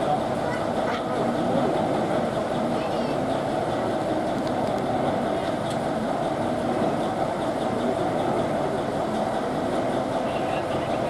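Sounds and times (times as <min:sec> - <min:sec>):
train running: 0:00.0 - 0:11.0.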